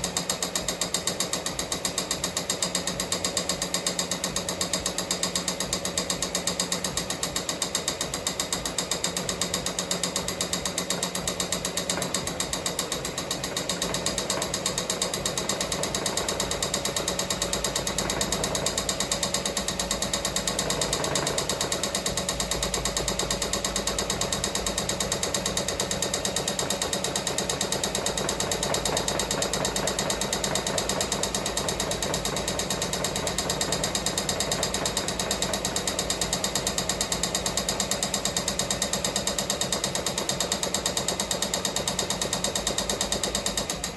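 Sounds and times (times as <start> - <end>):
embroidery machine stitching: 0.0 - 43.9.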